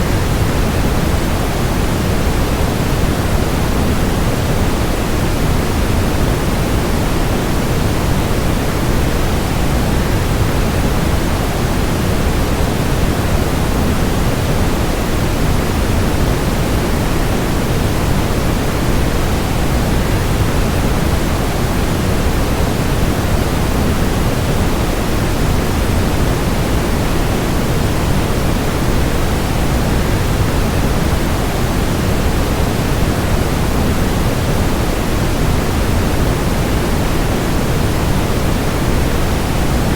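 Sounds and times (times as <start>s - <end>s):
white noise: 0.0s - 39.9s.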